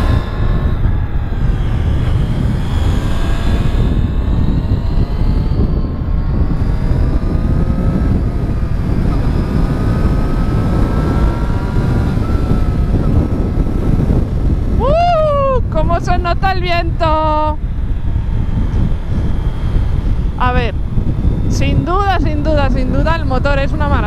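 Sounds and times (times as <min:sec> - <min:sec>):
motorcycle engine revving: 0:00.0 - 0:24.0
wind rushing on microphone: 0:00.0 - 0:24.0.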